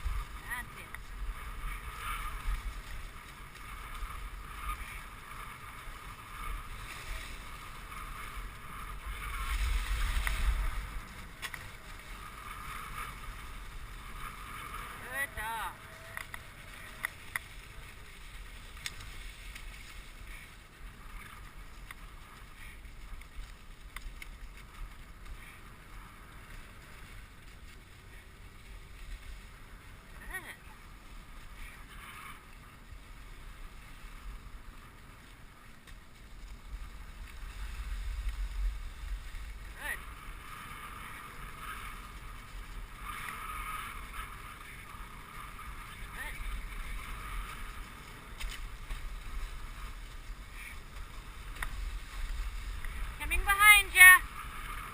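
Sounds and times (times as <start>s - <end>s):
sled runners hissing over snow: 0.0s - 54.9s
wind rumble on microphone: 0.0s - 54.9s.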